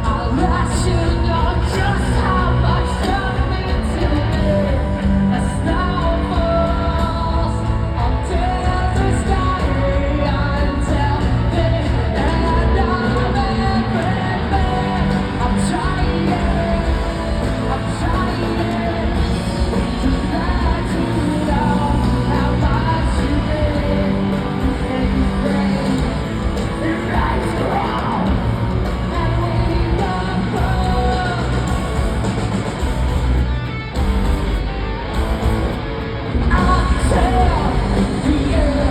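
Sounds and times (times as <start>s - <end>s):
person singing: 0.0s - 32.8s, 36.4s - 38.9s
rock band playing live: 0.0s - 38.9s.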